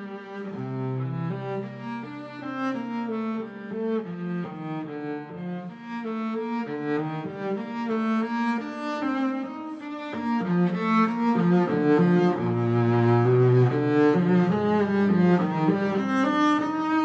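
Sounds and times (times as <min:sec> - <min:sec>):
bowed cello melody: 0:00.0 - 0:17.0.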